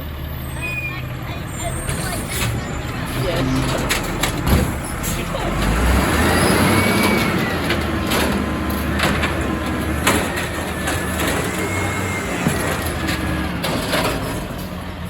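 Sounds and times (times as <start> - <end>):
refuse truck engine running: 0.0 - 15.0
sharp knocks and rattles: 1.9 - 6.1, 6.9 - 15.0.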